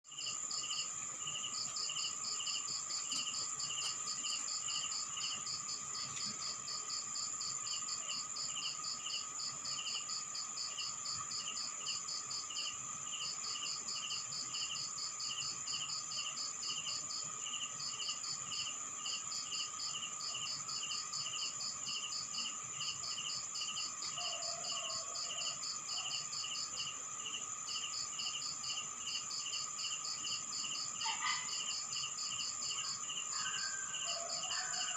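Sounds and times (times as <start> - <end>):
rapid cricket chirps: 0.0 - 34.9
high-pitched insect trill: 0.1 - 34.9
low insect drone: 0.1 - 34.9.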